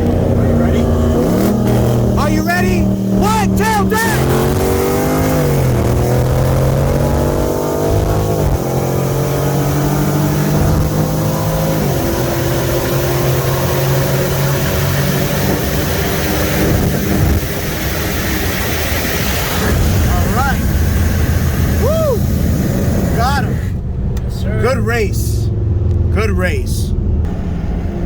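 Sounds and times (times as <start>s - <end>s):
car engine at full throttle: 0.0s - 28.0s
wind and road noise: 0.0s - 28.0s.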